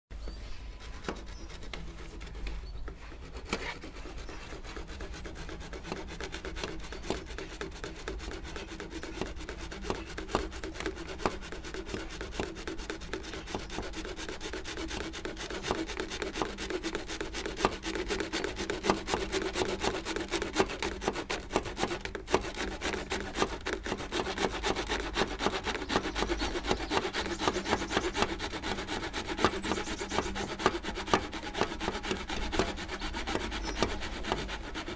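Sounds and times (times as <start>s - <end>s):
hand saw cutting plastic pipe: 0.7s - 34.9s.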